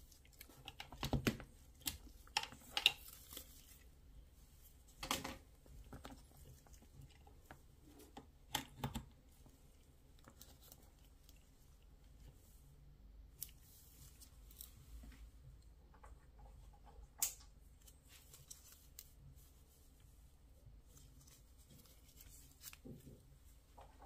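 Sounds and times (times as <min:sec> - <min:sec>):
gloved hands handling cable: 0:00.0 - 0:12.5, 0:13.2 - 0:24.0.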